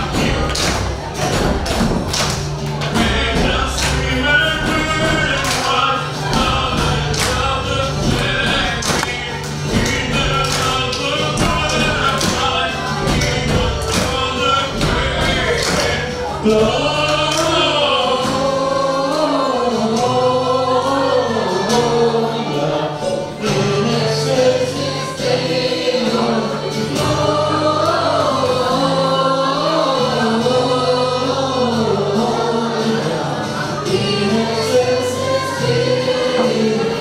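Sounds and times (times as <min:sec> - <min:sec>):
instrumental accompaniment: 0:00.0 - 0:37.0
mixed choir singing: 0:00.0 - 0:37.0.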